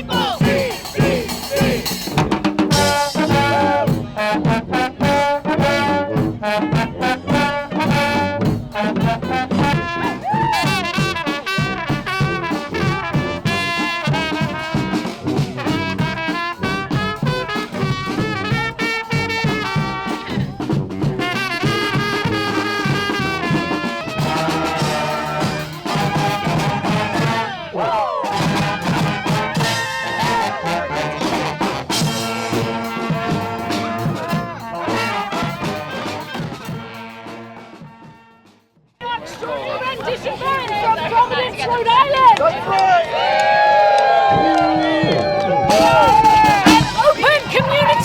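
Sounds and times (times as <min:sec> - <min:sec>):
percussion keeping a steady beat: 0:00.0 - 0:48.0
trumpets and trombones: 0:00.0 - 0:48.0.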